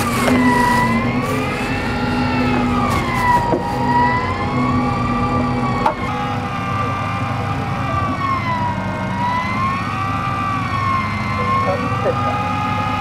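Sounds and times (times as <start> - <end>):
electric reel motor whine: 0.0 - 13.0.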